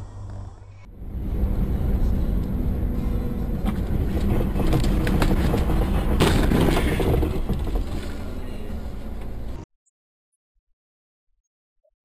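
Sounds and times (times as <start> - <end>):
car road and engine rumble: 0.0 - 9.7.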